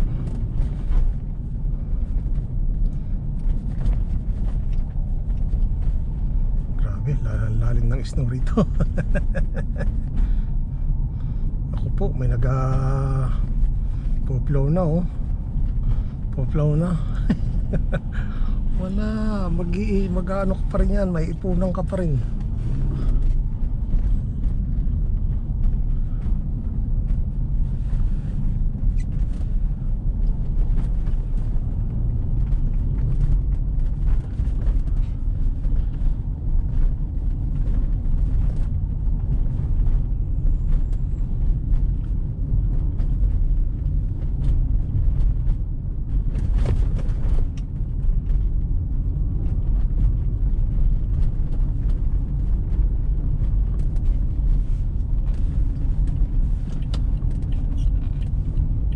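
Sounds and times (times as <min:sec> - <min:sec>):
engine and tyre rumble: 0:00.0 - 0:58.9.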